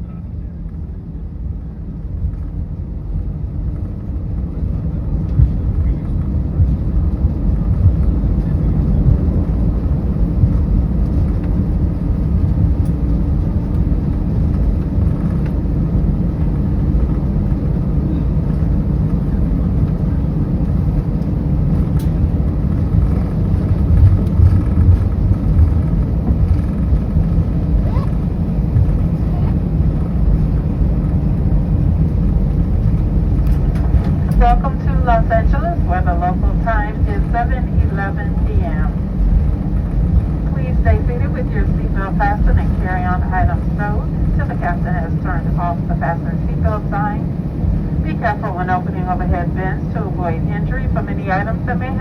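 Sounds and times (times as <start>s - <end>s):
airplane cabin rumble on ground: 0.0s - 52.0s.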